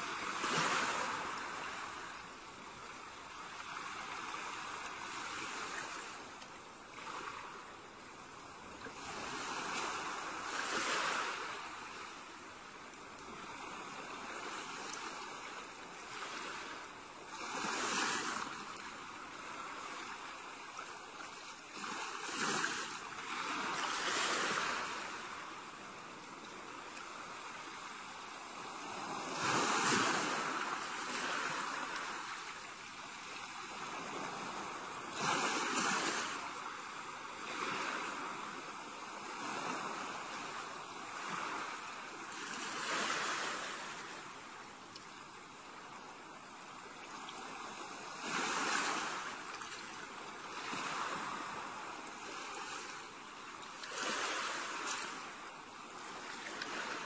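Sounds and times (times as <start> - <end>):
ocean surf washing ashore: 0.0 - 57.0.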